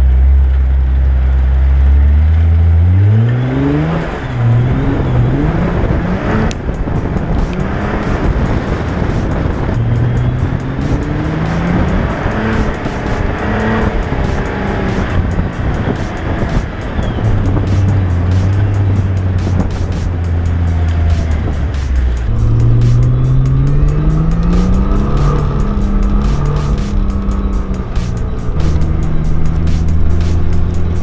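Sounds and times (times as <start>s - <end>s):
car engine idling and accelerating: 0.0s - 31.0s.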